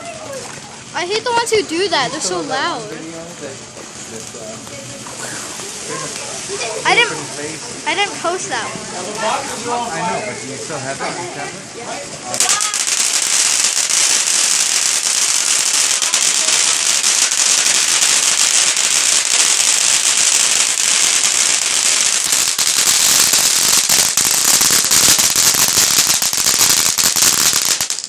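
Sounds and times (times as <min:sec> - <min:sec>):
firework crackling: 0:00.0 - 0:10.8, 0:12.2 - 0:28.0.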